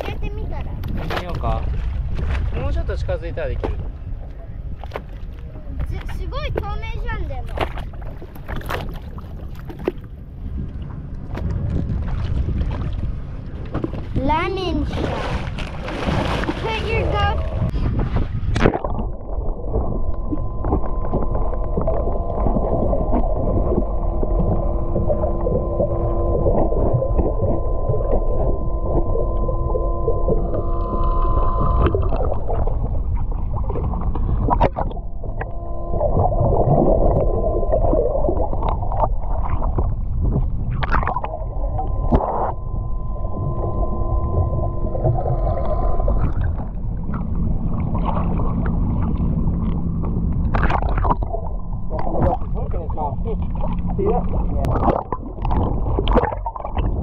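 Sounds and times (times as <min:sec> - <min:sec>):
low rumbling water: 0:00.0 - 0:57.0
motorboat engine droning: 0:00.0 - 0:57.0
wind noise: 0:00.0 - 0:57.0.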